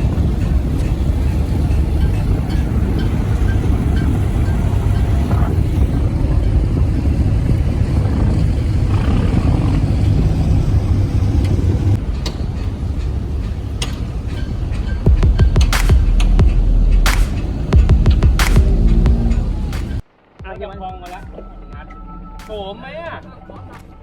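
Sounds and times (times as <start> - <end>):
boat engine rumbling: 0.0 - 20.0
wind: 0.0 - 24.0.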